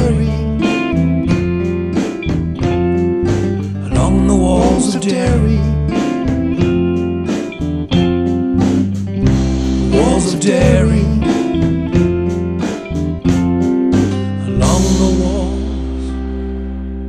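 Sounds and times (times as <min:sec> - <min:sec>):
steady beat: 0:00.0 - 0:15.6
acoustic guitar: 0:00.0 - 0:17.0
bass guitar: 0:00.0 - 0:17.0
electric guitar: 0:00.0 - 0:17.0.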